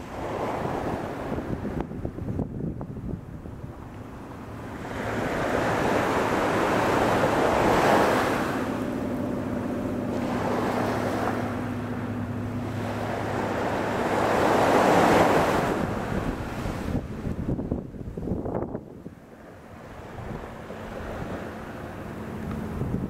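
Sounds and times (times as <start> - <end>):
small waves breaking on sand: 0.0 - 2.1, 3.4 - 17.6, 19.1 - 22.8.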